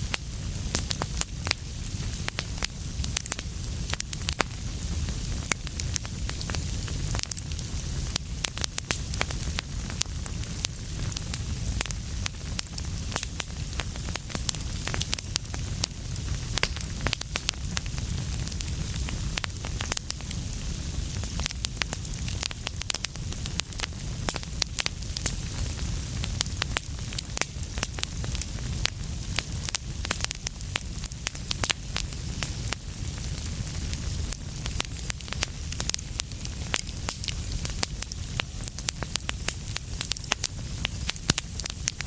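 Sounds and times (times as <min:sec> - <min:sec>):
fire pops and snaps: 0:00.0 - 0:42.0
low rumble of flames: 0:00.0 - 0:42.0
wood fire crackling: 0:00.0 - 0:42.0.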